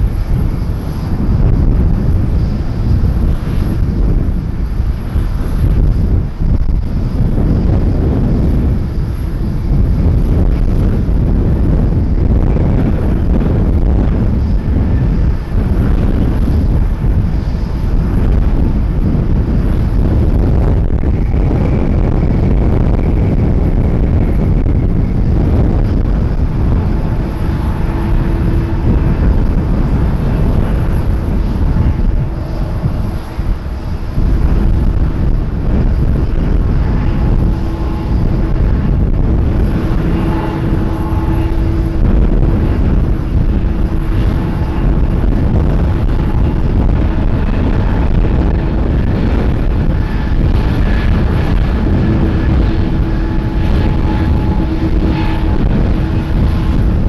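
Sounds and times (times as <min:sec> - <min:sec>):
airliner engines rumbling: 0:00.0 - 0:57.0.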